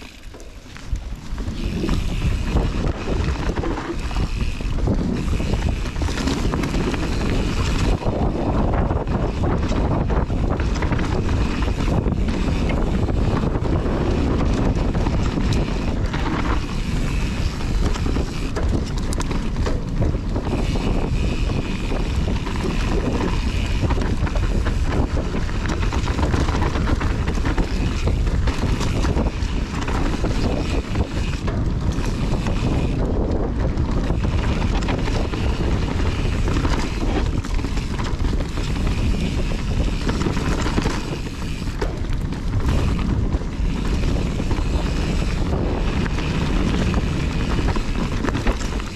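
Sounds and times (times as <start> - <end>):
bike rattling and knocking: 0.0 - 48.9
tyres rumbling on dirt: 0.0 - 48.9
wind buffeting camera: 0.0 - 48.9.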